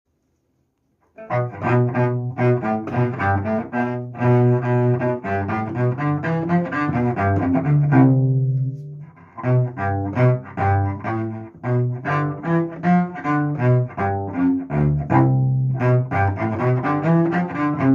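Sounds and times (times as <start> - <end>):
solo cello bowed notes: 1.1 - 17.9.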